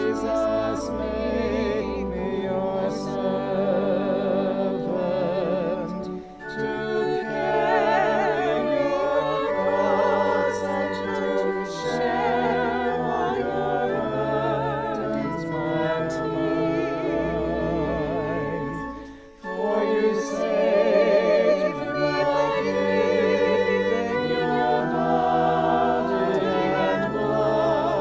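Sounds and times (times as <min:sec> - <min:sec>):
sustained accompaniment: 0:00.0 - 0:28.0
voices singing a hymn: 0:00.0 - 0:28.0.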